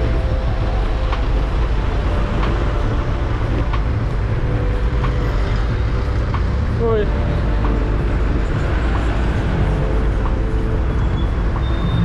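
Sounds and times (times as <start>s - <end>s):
road rumble: 0.0s - 12.0s
wind rushing over microphone: 0.0s - 12.0s.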